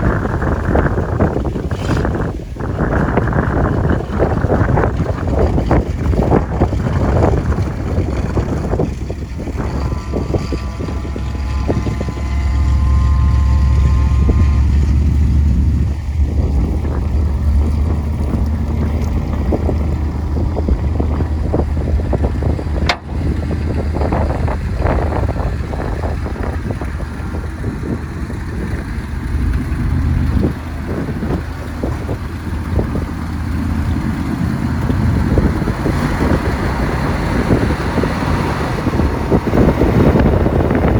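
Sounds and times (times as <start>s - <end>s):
truck engine rumbling: 0.0s - 40.9s
wind buffeting microphone: 0.0s - 40.9s.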